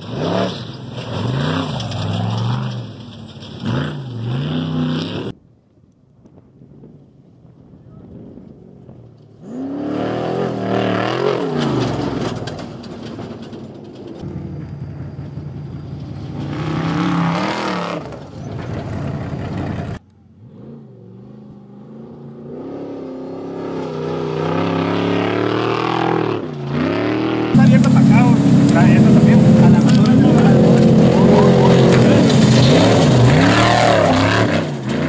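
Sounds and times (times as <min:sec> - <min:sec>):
truck engines revving past: 0:00.0 - 0:05.4, 0:08.6 - 0:35.0.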